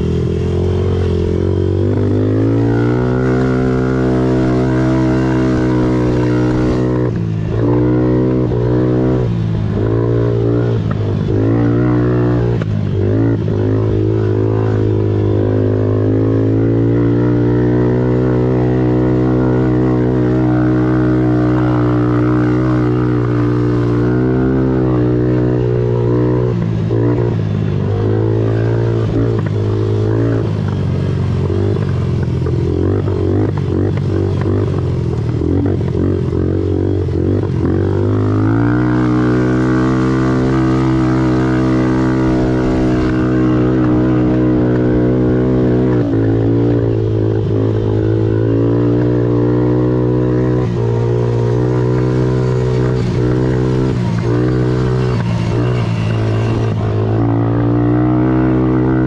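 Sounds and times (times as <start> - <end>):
quad engine running hard: 0.0 - 59.0.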